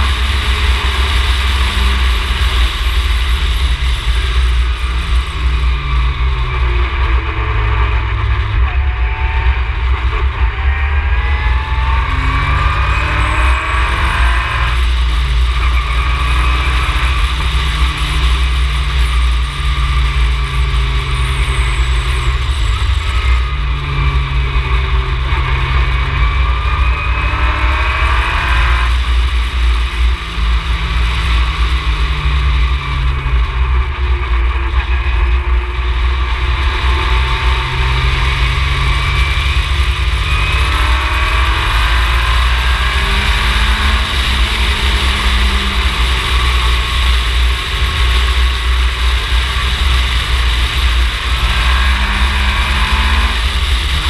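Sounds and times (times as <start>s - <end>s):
deep steady rumble: 0.0s - 54.0s
race car engine revving: 0.0s - 54.0s.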